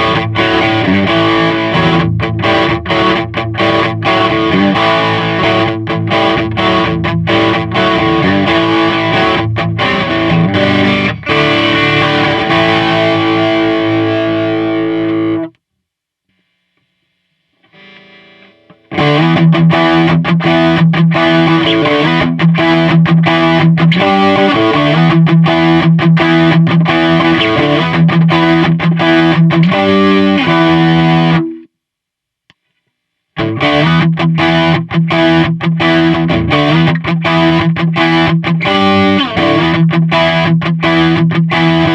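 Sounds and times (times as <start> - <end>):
distorted electric guitar: 0.0 - 15.6, 16.3 - 31.7, 33.4 - 41.9.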